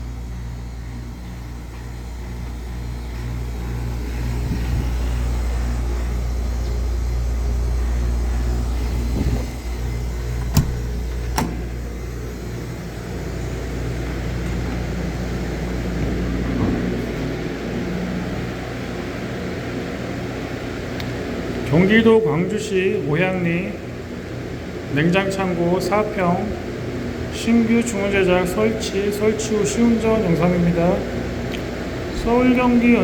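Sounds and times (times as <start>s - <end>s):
refrigeration unit humming: 0.0s - 33.0s.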